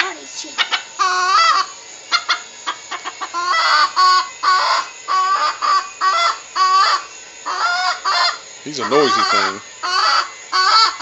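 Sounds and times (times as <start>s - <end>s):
rooster clucking: 0.6s - 11.0s.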